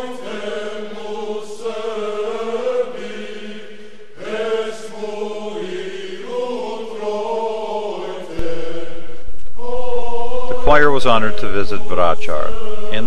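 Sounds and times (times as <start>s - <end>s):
men's choir chanting: 0.0s - 13.0s.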